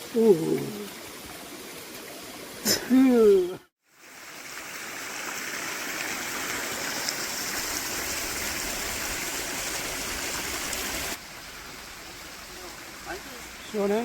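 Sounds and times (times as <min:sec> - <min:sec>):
stream water rushing over rocks: 0:00.0 - 0:03.3, 0:03.9 - 0:14.0.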